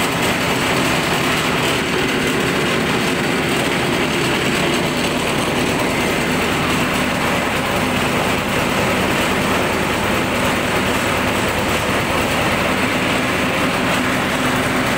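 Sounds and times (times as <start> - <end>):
small petrol engine running: 0.0 - 14.9.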